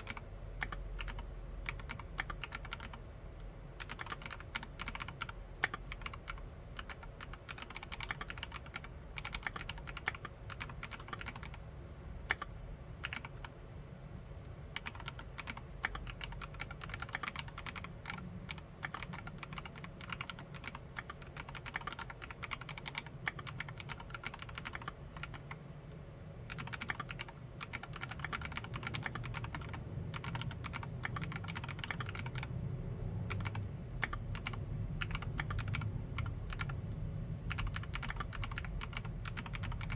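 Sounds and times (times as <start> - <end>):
typing on mechanical keyboard: 0.0 - 3.0, 3.8 - 11.6, 12.3 - 13.5, 14.8 - 25.6, 26.5 - 32.5, 33.3 - 36.8, 37.5 - 39.9.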